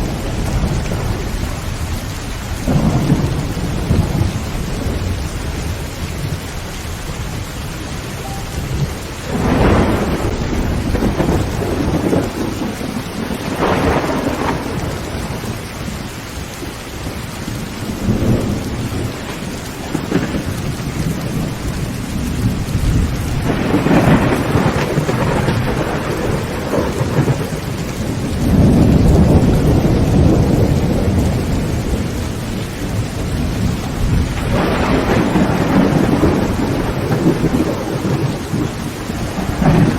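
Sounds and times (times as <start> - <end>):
heavy rain on a tin roof: 0.0 - 39.9
rolling thunder: 0.0 - 39.9.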